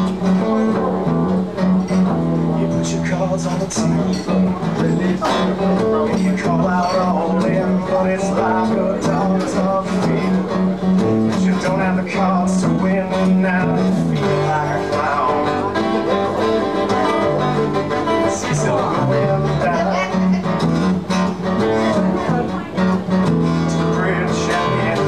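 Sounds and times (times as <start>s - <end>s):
acoustic guitar picking: 0.0s - 25.0s.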